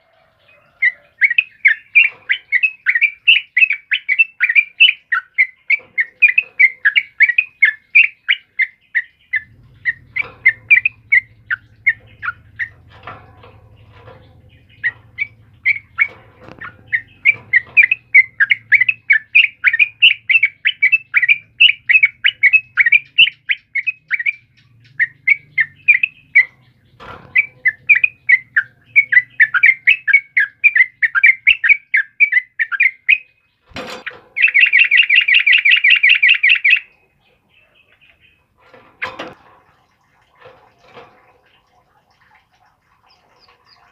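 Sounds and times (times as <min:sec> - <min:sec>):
bird singing fast chattering notes: 0:00.4 - 0:38.6.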